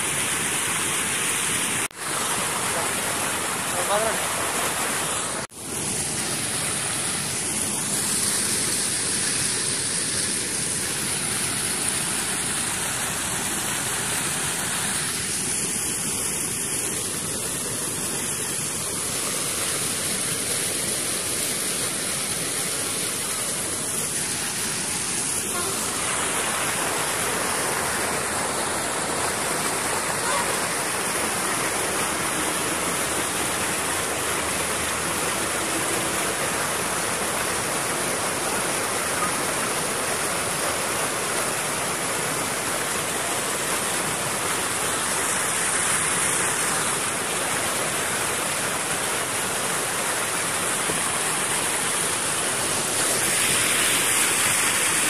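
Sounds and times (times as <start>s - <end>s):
floodwater rushing over weir: 0.0s - 55.0s.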